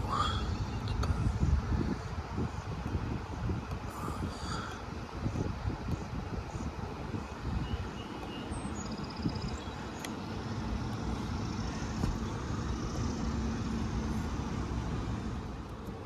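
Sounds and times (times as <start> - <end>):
faint steady hum: 0.0 - 16.0
low outdoor rumble: 0.0 - 16.0.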